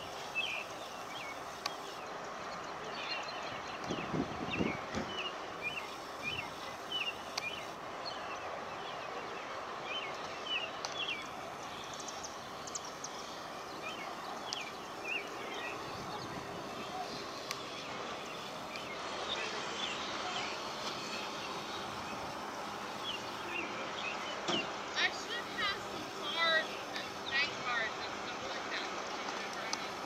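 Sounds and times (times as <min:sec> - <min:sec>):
small birds chirping: 0:00.0 - 0:30.0
steady outdoor hiss: 0:00.0 - 0:30.0.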